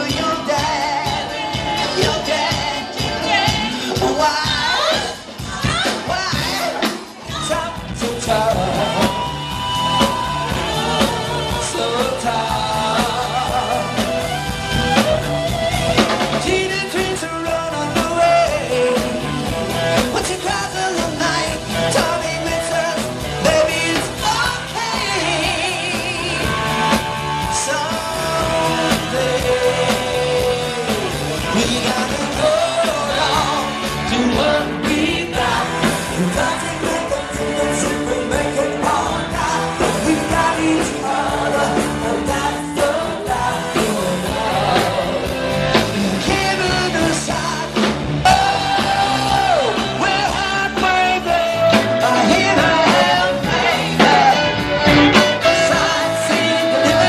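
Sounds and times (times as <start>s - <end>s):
lead vocalist singing: 0.0s - 57.0s
live pop-rock band: 0.0s - 57.0s
steady drum beat: 0.0s - 57.0s.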